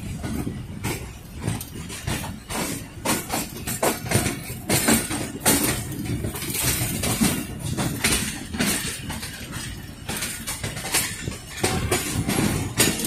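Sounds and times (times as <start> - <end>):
low train rumble: 0.0 - 13.0
train wheels clattering over rail joints: 0.0 - 13.0.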